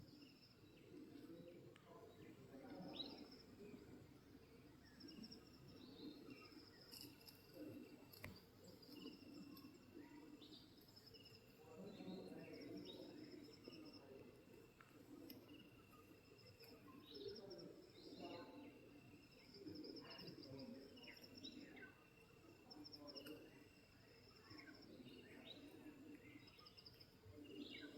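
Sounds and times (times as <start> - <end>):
faint low murmur: 0.0 - 27.9.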